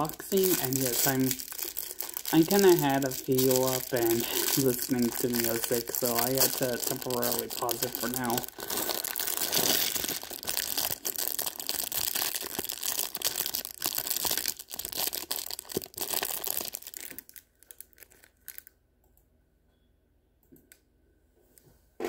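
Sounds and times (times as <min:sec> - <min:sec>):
plastic wrapping crinkling: 0:00.0 - 0:18.8.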